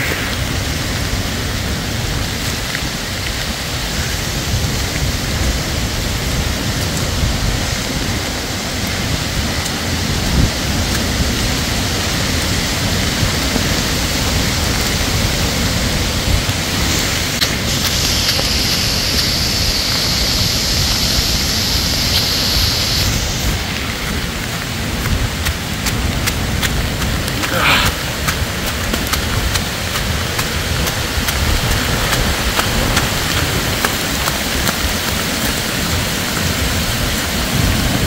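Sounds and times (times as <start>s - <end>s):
heavy rain on leaves and ground: 0.0s - 38.0s.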